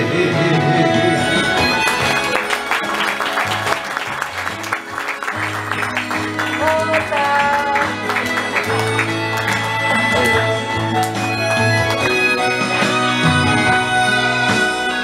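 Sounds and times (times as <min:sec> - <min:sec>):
karaoke backing track: 0:00.0 - 0:15.0
audience clapping: 0:01.2 - 0:14.6.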